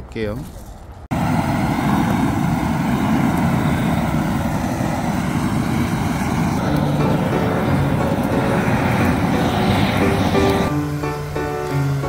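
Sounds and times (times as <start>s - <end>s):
gas torch flame roaring: 1.1s - 12.0s.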